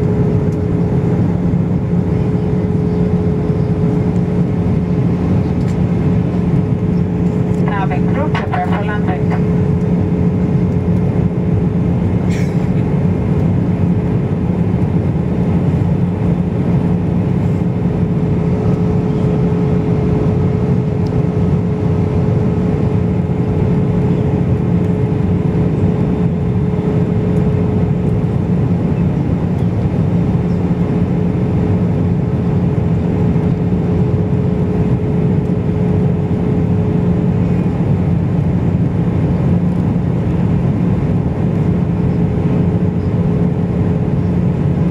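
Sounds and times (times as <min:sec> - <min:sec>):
jet engines and airflow rushing: 0:00.0 - 0:44.9
steady hum: 0:00.0 - 0:44.9.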